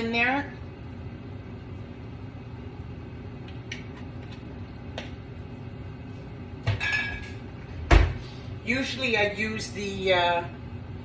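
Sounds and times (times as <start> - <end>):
air fryer fan hum: 0.0 - 11.0.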